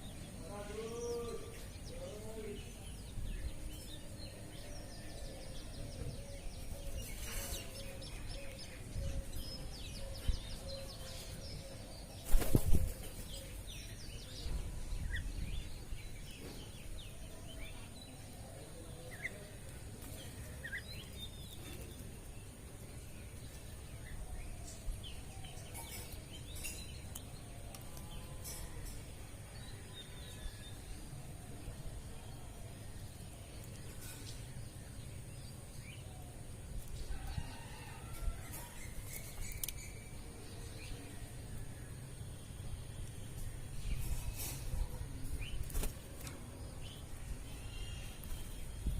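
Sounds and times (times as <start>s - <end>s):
birds calling and chirping: 0.0s - 48.9s
repeated low bird calls: 0.0s - 48.9s.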